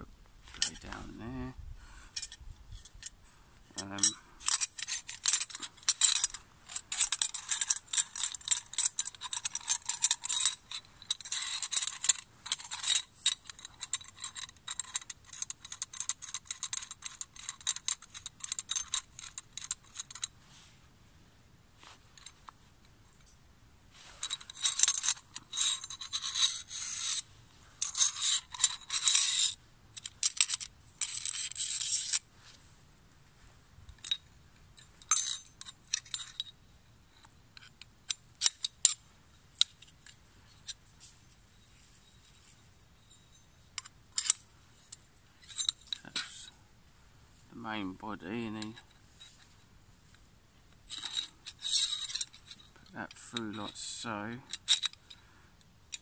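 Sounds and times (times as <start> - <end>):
metal saw parts scraping and clinking: 0.5 - 1.0, 2.1 - 20.3, 24.0 - 32.2, 33.9 - 36.6, 37.2 - 46.6, 47.7 - 49.6, 50.8 - 55.2.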